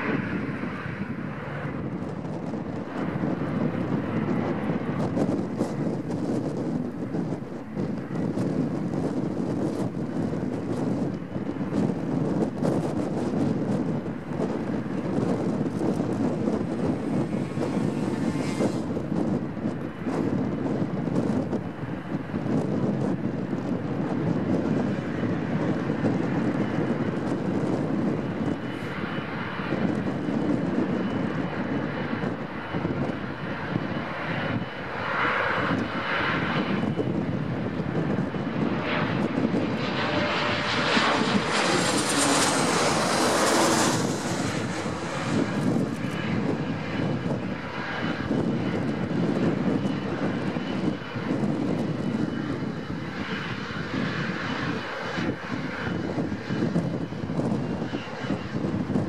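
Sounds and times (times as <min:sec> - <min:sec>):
jet engines rumble and hiss: 0:00.0 - 0:59.0.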